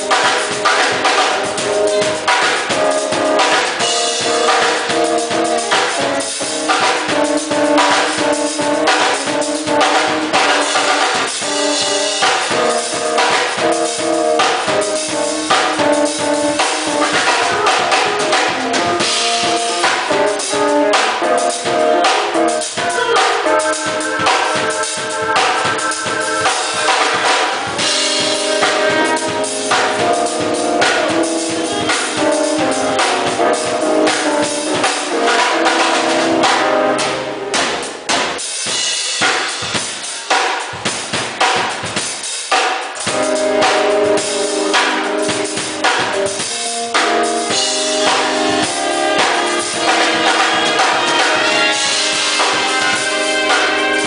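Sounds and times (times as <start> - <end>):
band music: 0.0 - 54.0
drum kit beat: 0.0 - 54.0.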